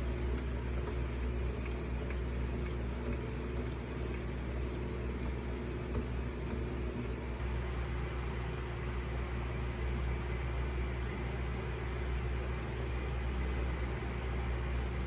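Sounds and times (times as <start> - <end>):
turntable mechanical hum: 0.0 - 15.0.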